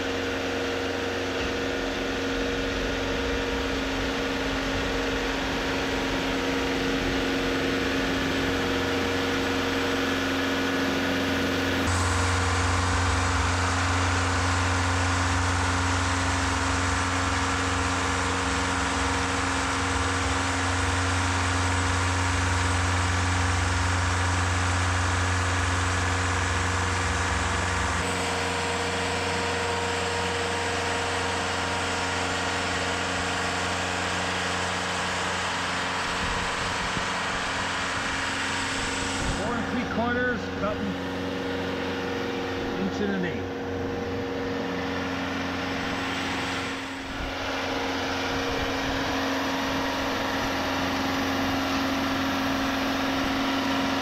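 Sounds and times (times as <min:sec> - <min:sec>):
bandsaw mill cutting log: 0:00.0 - 0:54.0.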